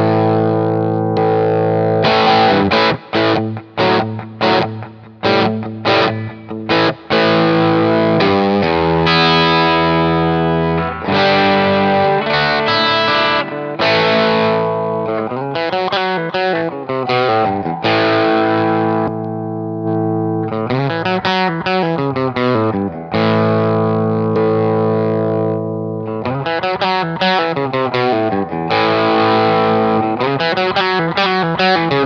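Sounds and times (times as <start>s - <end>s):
overdriven electric guitar: 0.0s - 32.0s.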